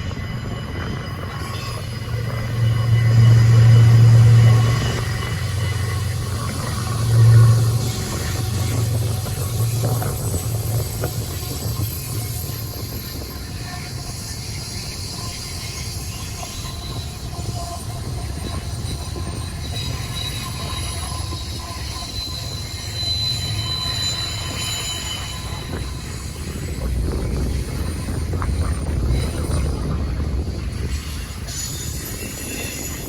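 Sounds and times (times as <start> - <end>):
low train rumble: 0.0 - 33.0
train wheels squealing: 0.0 - 33.0.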